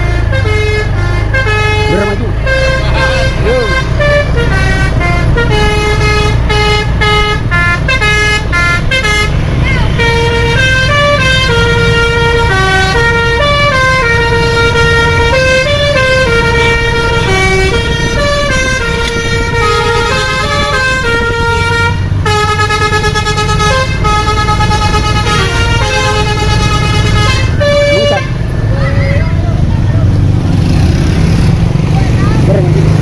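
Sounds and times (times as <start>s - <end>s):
multi-tone air horn melody: 0.0s - 28.4s
low engine rumble: 0.0s - 33.0s.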